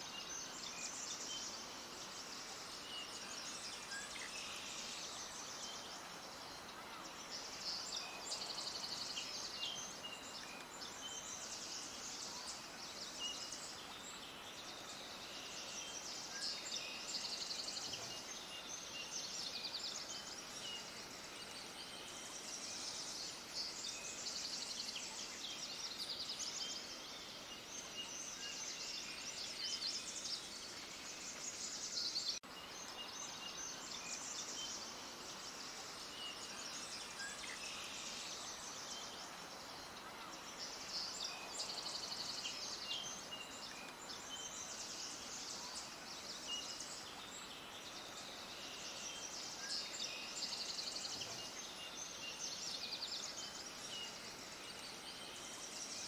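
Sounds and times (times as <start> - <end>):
background hiss: 0.0 - 56.0
songbirds chirping and trilling: 0.0 - 56.0.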